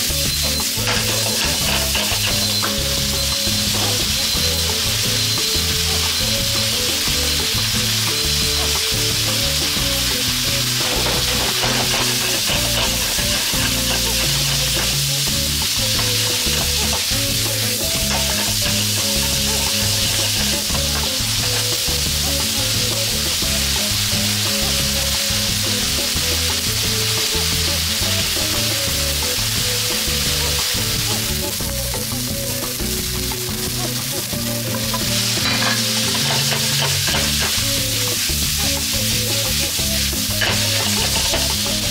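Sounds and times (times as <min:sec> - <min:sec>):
background music: 0:00.0 - 0:41.9
meat sizzling in oil: 0:00.0 - 0:41.9.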